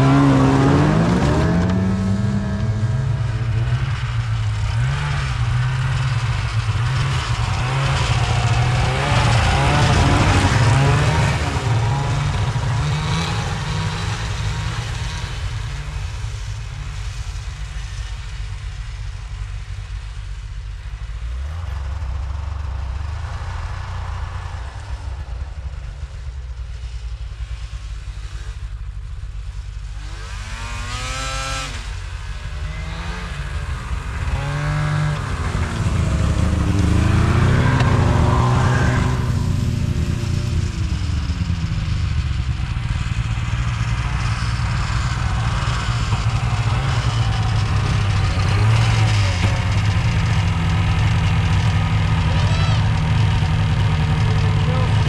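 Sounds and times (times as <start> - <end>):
low engine rumble: 0.0 - 55.0
snowmobile engines revving: 0.0 - 55.0.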